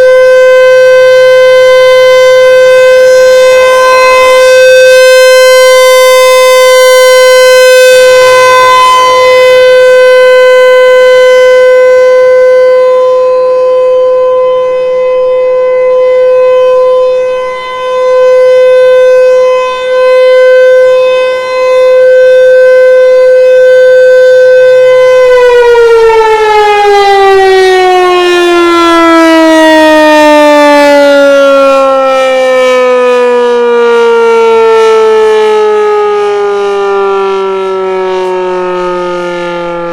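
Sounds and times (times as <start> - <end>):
mechanical warning siren: 0.0 - 39.9.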